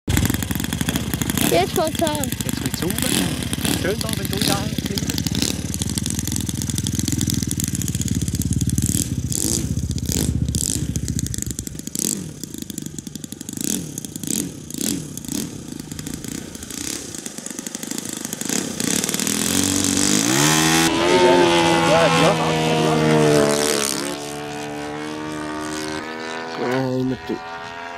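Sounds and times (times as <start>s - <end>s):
model aircraft engine running: 0.1s - 27.9s.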